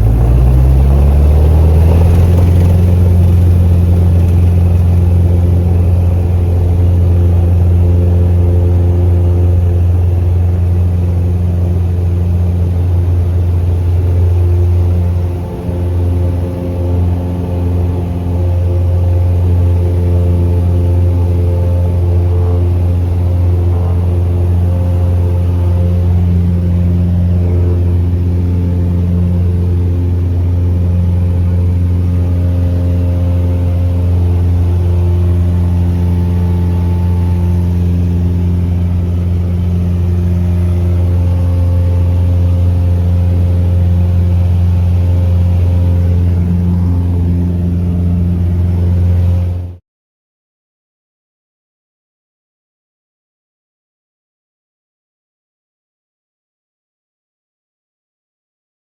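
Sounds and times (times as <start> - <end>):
propeller plane engine drone: 0.0 - 49.8.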